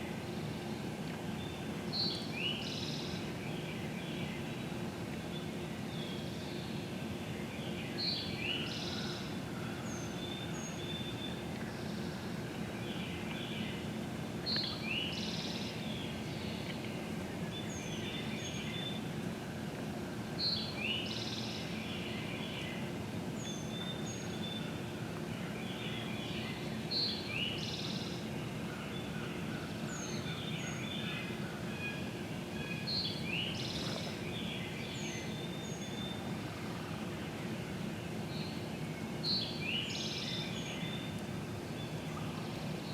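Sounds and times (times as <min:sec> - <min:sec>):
songbird singing: 0:00.0 - 0:19.7, 0:20.3 - 0:42.9
low background noise: 0:00.0 - 0:42.9.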